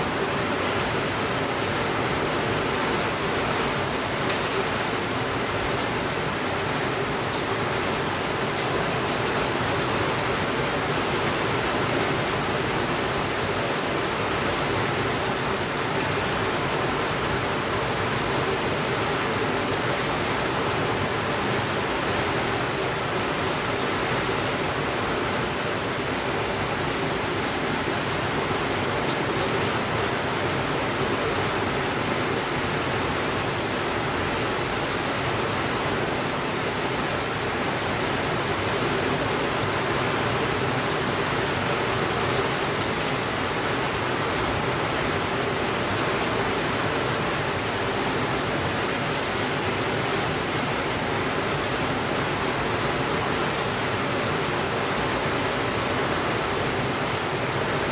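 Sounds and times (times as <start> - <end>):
steady rainfall: 0.0 - 57.9.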